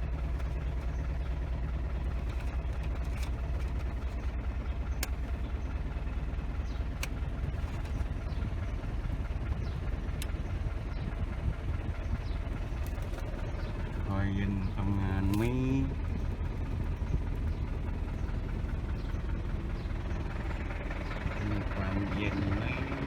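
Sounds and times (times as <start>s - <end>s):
pickup engine idling: 0.0s - 23.0s.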